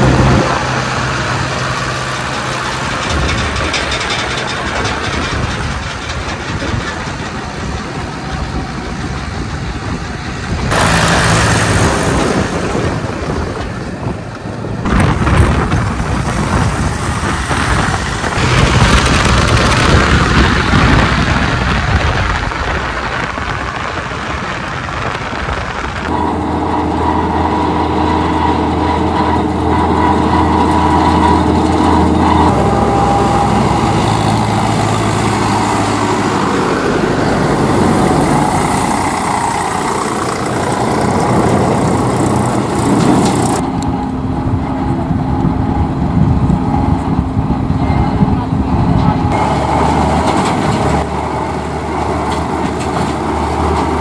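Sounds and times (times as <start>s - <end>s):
diesel tractor engines running: 0.0s - 54.0s.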